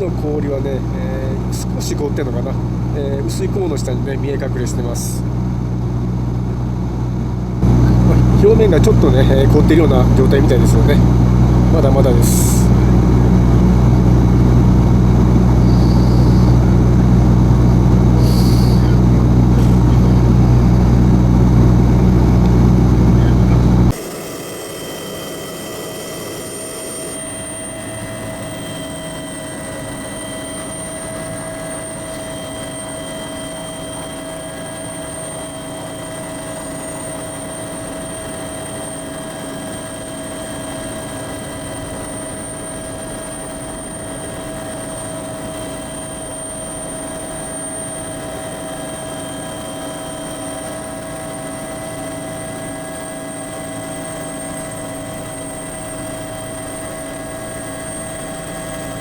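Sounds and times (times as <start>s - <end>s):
aircraft engine drone: 0.0s - 59.0s
high whining tones: 0.0s - 59.0s.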